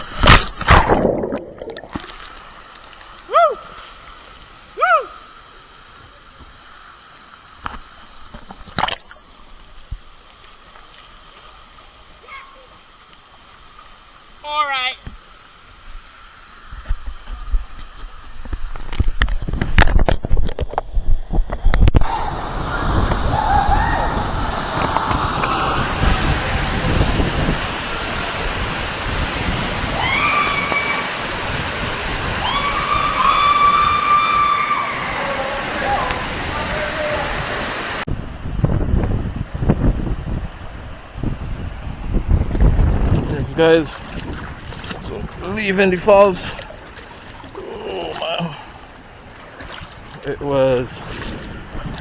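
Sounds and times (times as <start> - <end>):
water splashing and sloshing: 0.0 - 38.4, 39.4 - 52.0
rushing water: 0.0 - 52.0.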